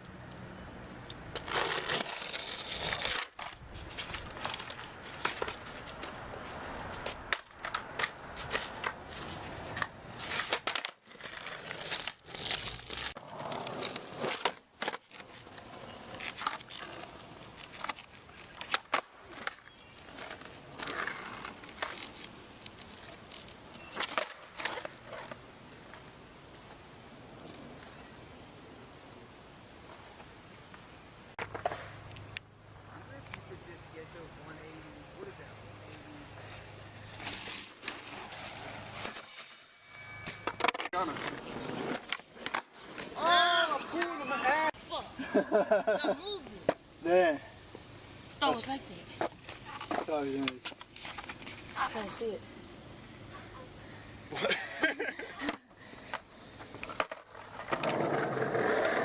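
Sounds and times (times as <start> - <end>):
skateboard wheels rolling on concrete: 0.0 - 59.0.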